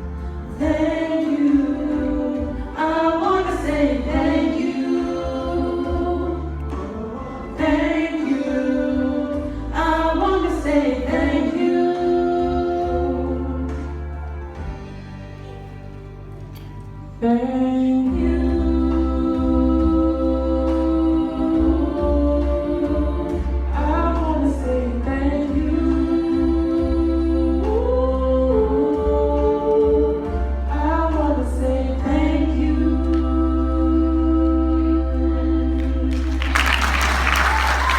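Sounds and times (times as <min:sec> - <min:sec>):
two voices singing: 0:00.0 - 0:14.5, 0:17.2 - 0:37.9
low musical accompaniment: 0:00.0 - 0:37.9
sustained backing chords: 0:00.0 - 0:37.9.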